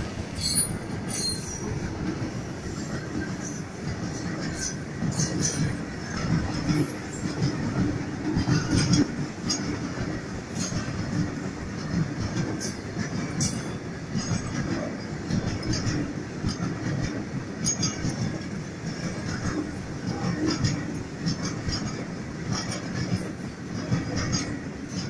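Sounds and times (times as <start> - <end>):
train wheels rumbling on rails: 0.0 - 25.0
wheels and couplings clanking: 0.0 - 25.0.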